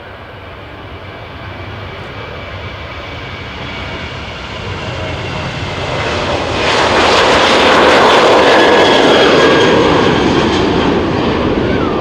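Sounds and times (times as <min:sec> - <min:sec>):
jet airliner passing close: 0:00.0 - 0:12.0
thin high engine whine: 0:00.0 - 0:12.0.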